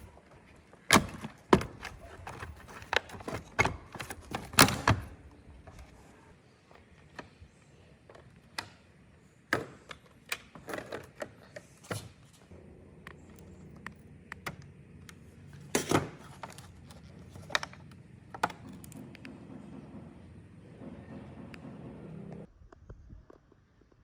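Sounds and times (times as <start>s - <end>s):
plastic parts clicking and knocking: 0.0s - 6.0s, 6.7s - 12.3s, 13.0s - 21.8s.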